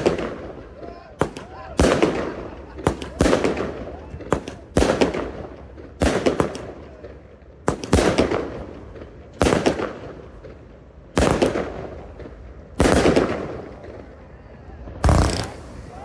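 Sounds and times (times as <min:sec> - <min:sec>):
fireworks bangs with echo: 0:00.0 - 0:14.2, 0:15.0 - 0:16.0.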